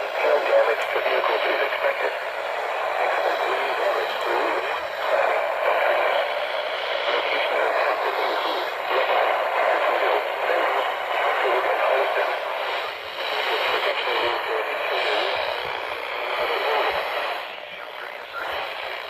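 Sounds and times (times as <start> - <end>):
muffled radio noise: 0.0 - 19.0.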